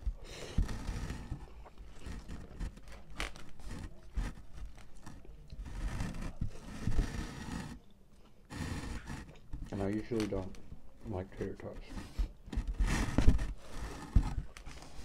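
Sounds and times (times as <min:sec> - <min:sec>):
plastic fork scraping container: 0:00.0 - 0:07.8, 0:08.4 - 0:15.0.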